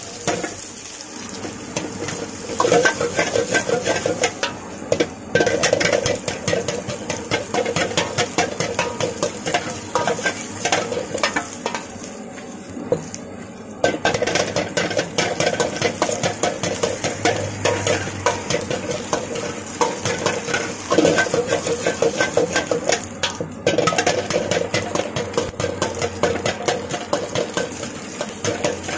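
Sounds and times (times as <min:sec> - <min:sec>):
food sizzling: 0:00.0 - 0:28.9
ladle scraping against wok: 0:01.4 - 0:12.2, 0:13.8 - 0:28.9.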